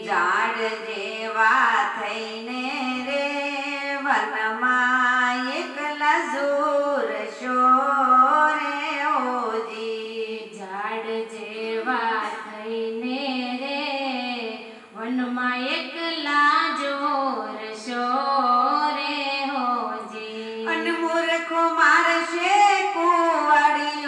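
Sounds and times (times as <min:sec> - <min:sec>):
woman singing devotional song: 0:00.0 - 0:24.0.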